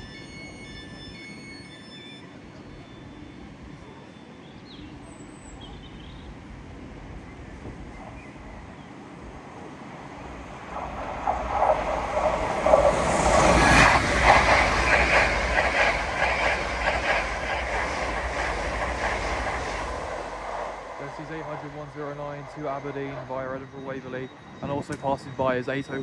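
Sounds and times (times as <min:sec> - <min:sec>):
express train passing: 0:00.0 - 0:26.0.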